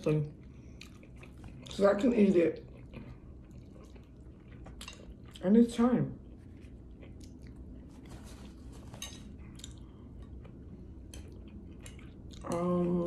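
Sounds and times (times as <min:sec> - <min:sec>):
person chewing food: 0:00.4 - 0:05.6, 0:06.2 - 0:13.0.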